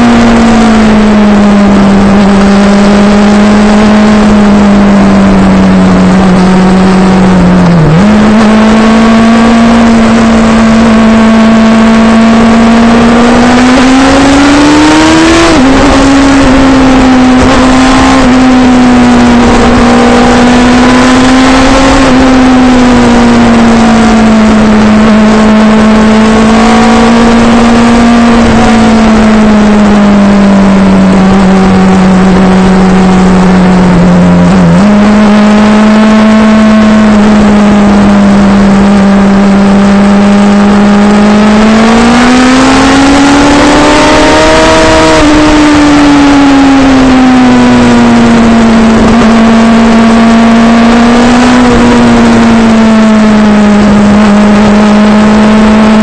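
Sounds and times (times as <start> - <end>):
motorcycle engine: 0.0 - 56.0
wind noise: 0.0 - 56.0.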